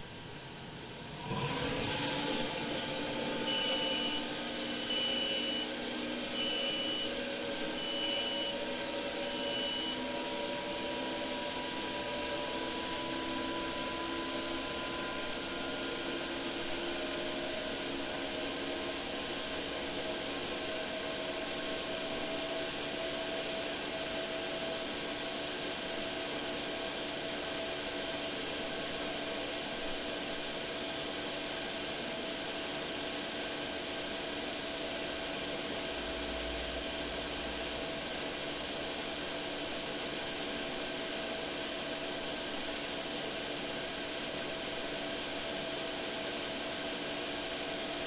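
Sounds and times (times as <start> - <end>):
hum and whine: 0.0 - 48.0.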